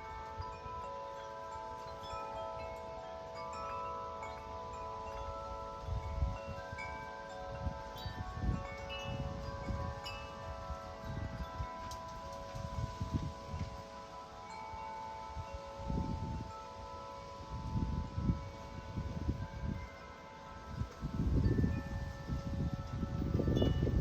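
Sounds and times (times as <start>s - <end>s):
deep wind chime ringing: 0.0s - 24.0s
wind gusts on microphone: 0.0s - 24.0s.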